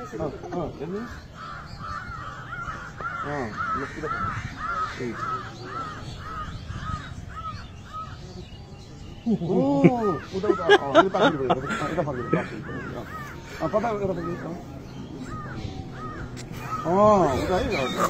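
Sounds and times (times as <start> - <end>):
bird calling: 0.0 - 18.0
faint low voices: 0.0 - 18.0.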